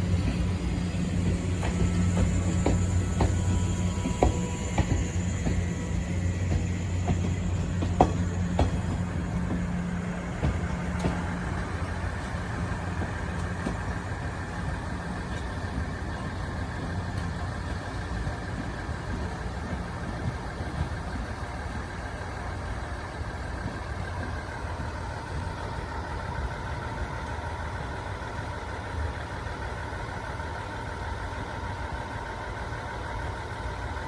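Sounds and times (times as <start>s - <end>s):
electric train humming: 0.0s - 34.0s.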